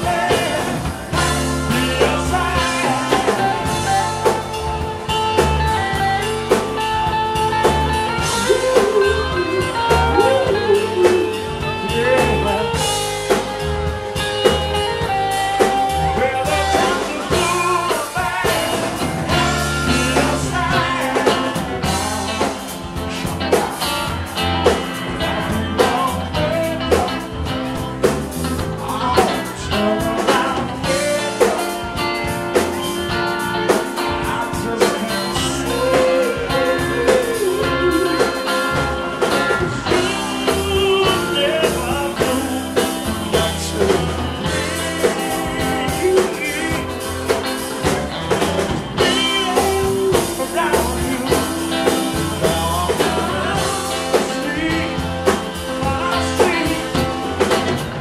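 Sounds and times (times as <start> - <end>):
person singing: 0.0 - 6.8, 7.4 - 27.6, 28.6 - 48.4, 49.0 - 57.8
blues soul band playing: 0.0 - 58.0.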